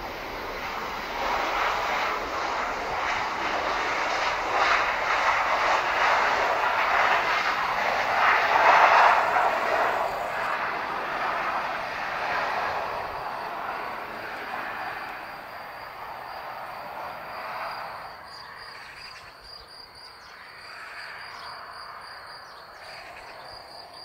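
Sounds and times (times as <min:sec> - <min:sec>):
jet engine rush: 0:00.0 - 0:24.0.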